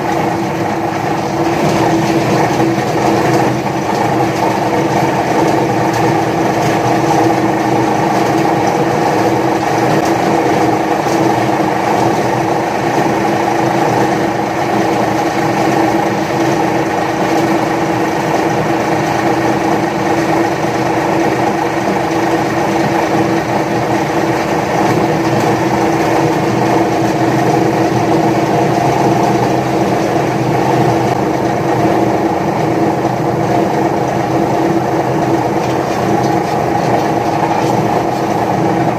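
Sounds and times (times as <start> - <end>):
paper shredder motor running: 0.0 - 38.9.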